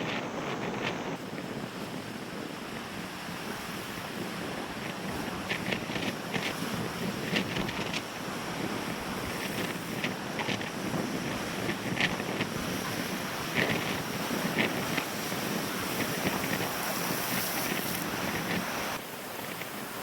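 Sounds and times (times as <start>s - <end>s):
lake waves washing on shore: 0.0s - 20.0s
wind buffeting microphone: 0.0s - 20.0s.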